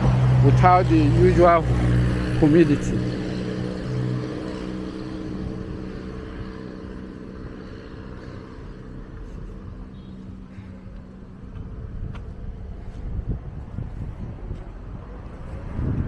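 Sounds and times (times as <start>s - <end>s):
road noise rumble: 0.0s - 16.0s
vehicle engine hum: 0.0s - 16.0s.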